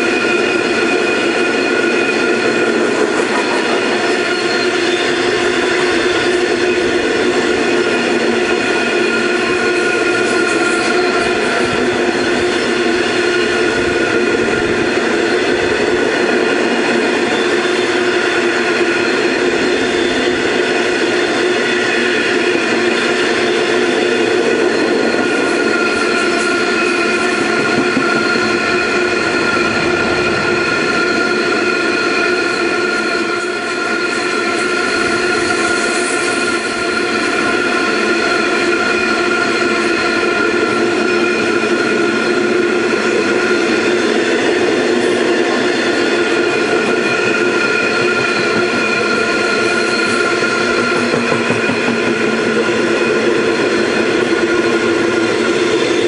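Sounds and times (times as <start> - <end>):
steady ringing tones: 0.0 - 56.0
train wheels rolling on rails: 0.0 - 56.0.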